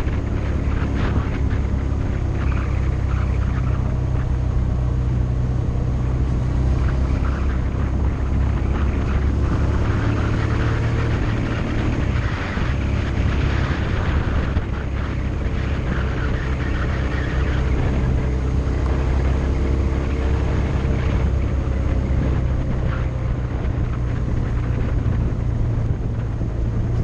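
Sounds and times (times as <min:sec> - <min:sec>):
motorcycle engine running: 0:00.0 - 0:27.0
rushing air noise: 0:00.0 - 0:27.0.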